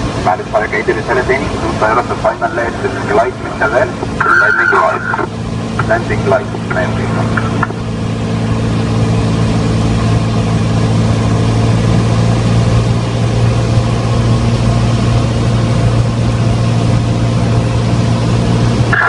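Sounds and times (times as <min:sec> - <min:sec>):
aircraft engine droning: 0:00.0 - 0:19.0.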